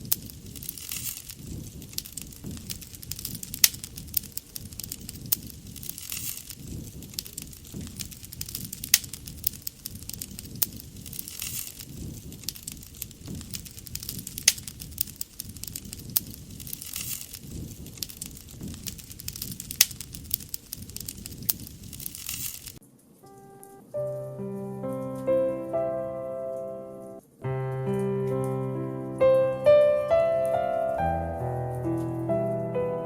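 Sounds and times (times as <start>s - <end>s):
campfire wood crackling: 0.0s - 33.0s
low rumble of fire: 0.0s - 33.0s.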